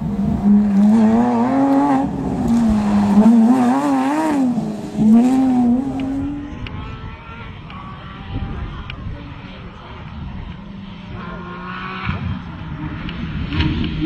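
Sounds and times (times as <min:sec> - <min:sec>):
car engine at high revs: 0:00.0 - 0:14.0.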